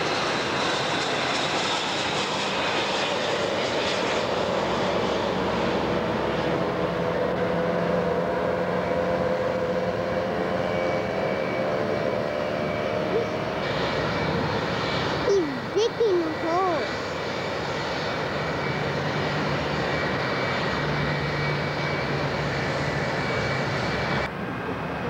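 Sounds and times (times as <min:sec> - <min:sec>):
jet engine whine: 0:00.0 - 0:25.0.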